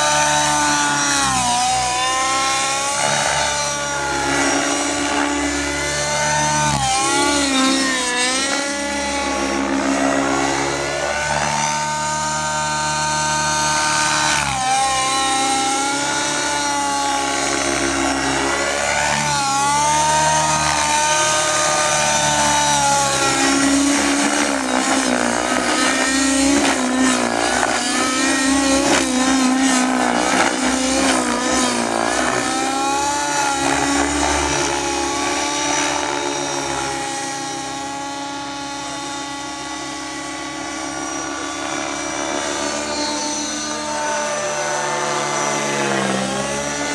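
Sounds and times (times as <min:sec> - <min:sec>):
rc helicopter engine and rotor whine: 0:00.0 - 0:46.9.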